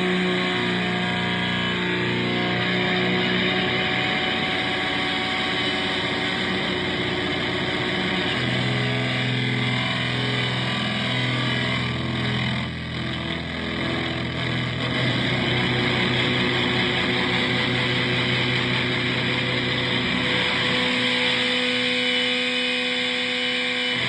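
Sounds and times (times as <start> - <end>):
distorted electric guitar drone: 0.0 - 24.0.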